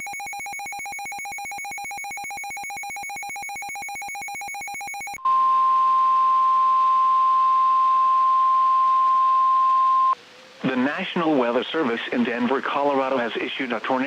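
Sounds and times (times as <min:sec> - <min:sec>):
loud steady alarm tone: 0:00.0 - 0:13.3.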